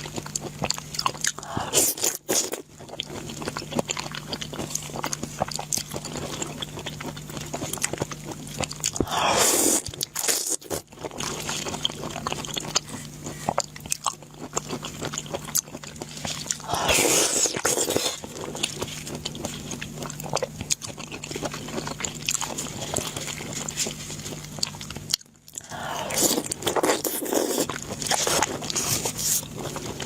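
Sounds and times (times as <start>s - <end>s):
faint steady hum: 0.0s - 30.0s
person chewing crunchy food: 0.0s - 30.0s.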